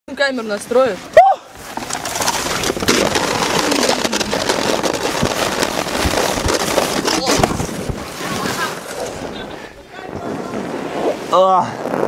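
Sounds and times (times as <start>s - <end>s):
sliding scrape over ice: 1.6s - 12.0s.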